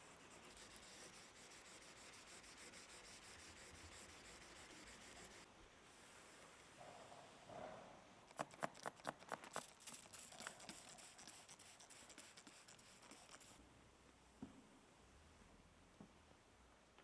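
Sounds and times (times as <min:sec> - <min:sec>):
quiet hiss: 0:00.0 - 0:17.0.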